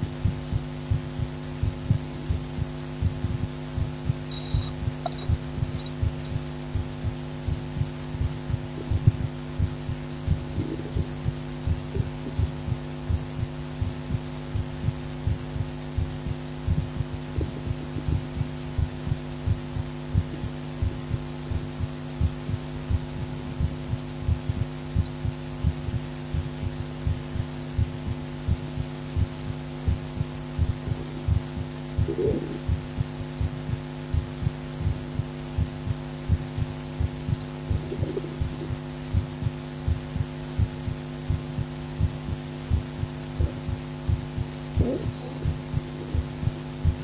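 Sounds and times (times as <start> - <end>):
heartbeat through stethoscope: 0.0 - 47.0
steady low hum: 0.0 - 47.0.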